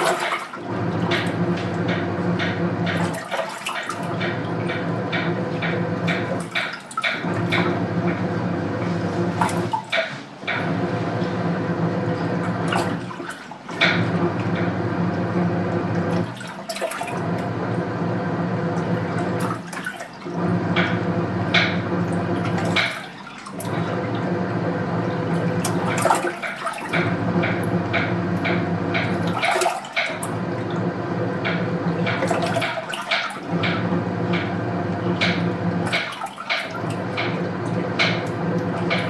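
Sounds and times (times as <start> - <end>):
washing machine motor hum: 0.0 - 39.0
water sloshing in drum: 0.0 - 39.0.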